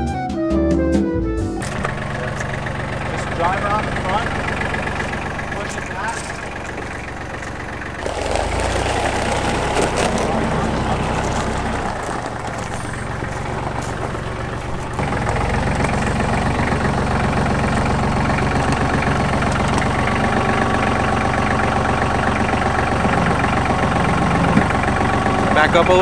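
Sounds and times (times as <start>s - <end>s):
vehicle engine idling: 1.6s - 26.0s.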